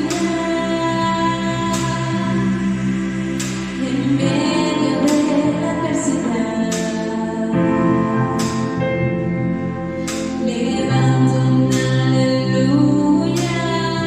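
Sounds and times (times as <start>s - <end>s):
sustained held chords: 0.0s - 14.0s
worship music with singing: 0.0s - 14.0s.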